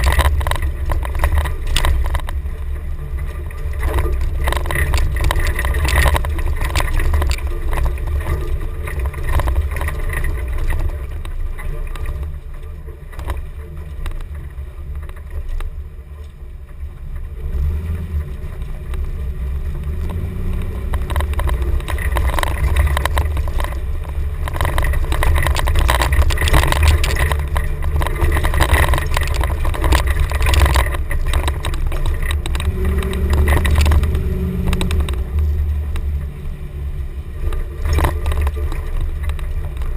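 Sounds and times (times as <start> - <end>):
engine rumble off-road: 0.0 - 39.9
knocks and rattles: 0.0 - 39.9.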